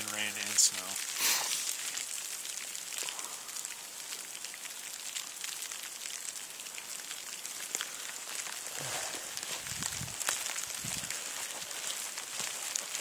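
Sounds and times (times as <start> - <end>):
freezing rain pattering: 0.0 - 13.0.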